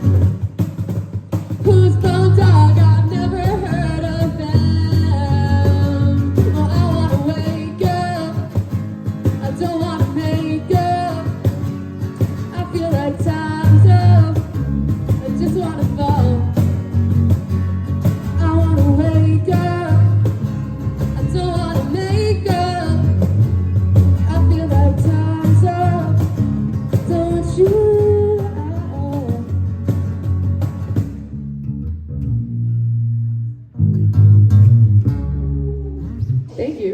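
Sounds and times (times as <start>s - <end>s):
steady drum beat: 0.0s - 31.3s
bass: 0.0s - 36.9s
bending melodic lead guitar: 1.7s - 36.9s.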